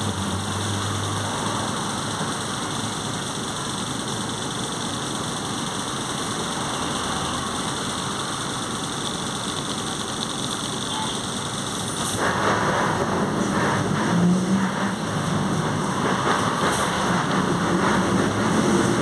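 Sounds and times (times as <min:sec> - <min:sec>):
bus engine running: 0:00.0 - 0:19.0
roaring transmission: 0:00.0 - 0:19.0.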